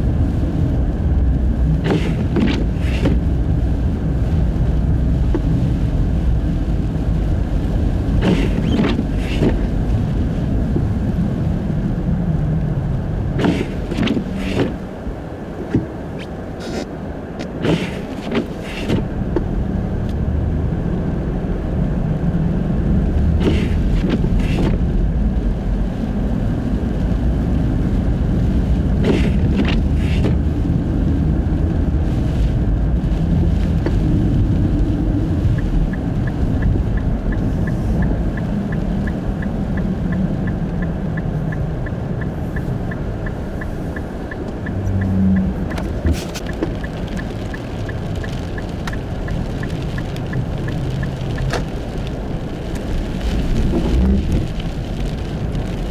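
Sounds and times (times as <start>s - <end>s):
road and tyre rumble: 0.0s - 55.9s
turn signal ticking: 0.0s - 55.9s.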